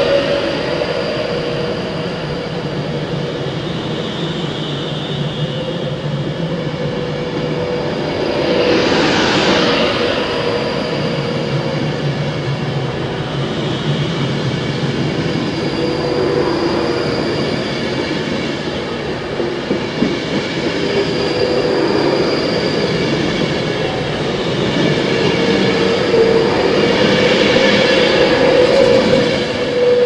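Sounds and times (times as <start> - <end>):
electric train passing at speed: 0.0 - 30.0.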